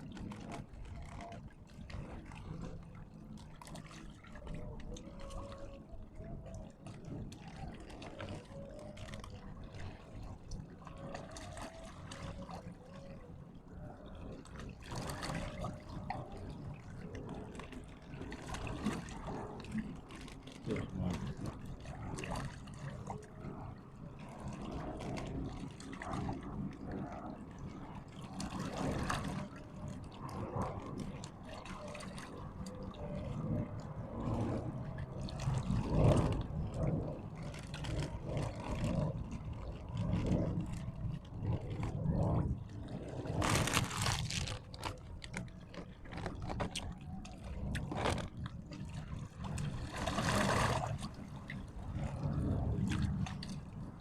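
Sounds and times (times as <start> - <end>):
water sloshing and trickling: 0.0 - 54.0.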